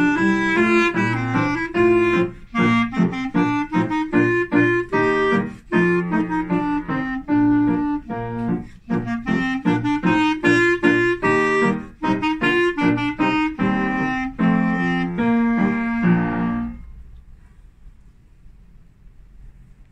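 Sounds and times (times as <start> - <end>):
clarinet playing: 0.0 - 16.9
piano accompaniment: 0.0 - 17.1.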